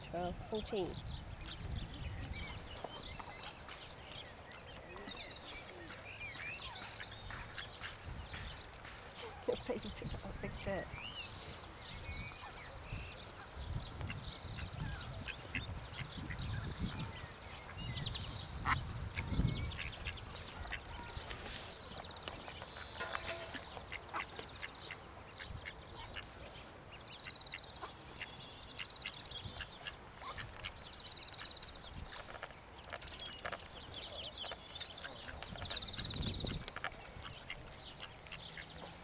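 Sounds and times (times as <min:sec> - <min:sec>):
ducklings peeping: 0:00.0 - 0:39.0.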